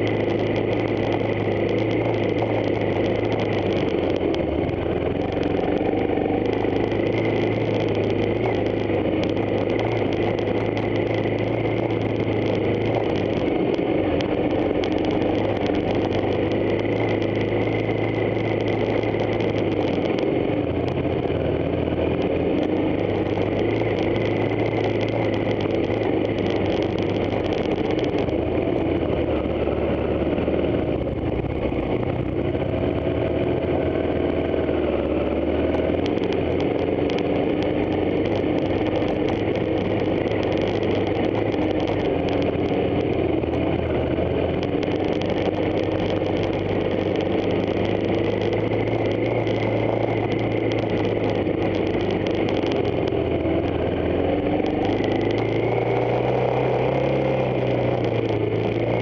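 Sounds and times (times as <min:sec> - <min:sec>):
motorcycle engine revving: 0:00.0 - 0:59.0
rattling clicks from bike: 0:00.0 - 0:59.0.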